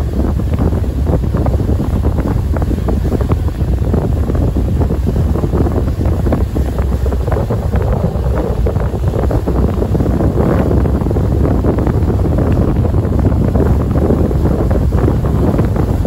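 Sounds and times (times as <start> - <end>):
boat running noise: 0.0 - 16.0
wind buffeting microphone: 0.0 - 16.0.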